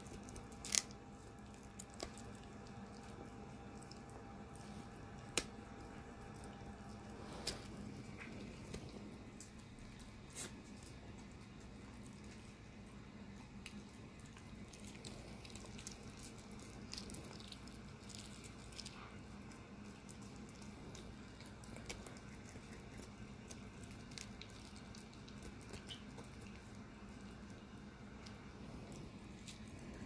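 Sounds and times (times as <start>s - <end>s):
dog gnawing on a chew: 0.0s - 30.0s.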